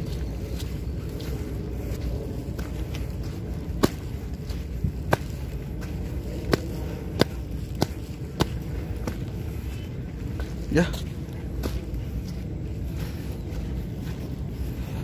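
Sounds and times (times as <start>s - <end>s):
footsteps on muddy dirt path: 0.0s - 15.0s
steady low rumble: 0.0s - 15.0s.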